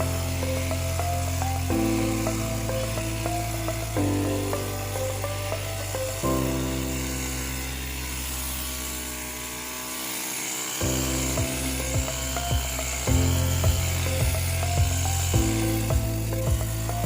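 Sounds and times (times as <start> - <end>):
background music held low notes: 0.0 - 9.7, 10.8 - 17.0.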